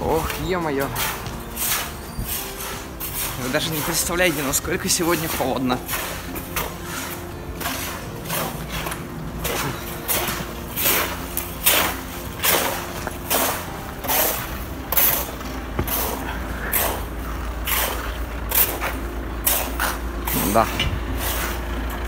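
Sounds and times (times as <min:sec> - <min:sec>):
footsteps crunching on snow: 0:00.0 - 0:22.0
low steady rumble: 0:00.0 - 0:22.0.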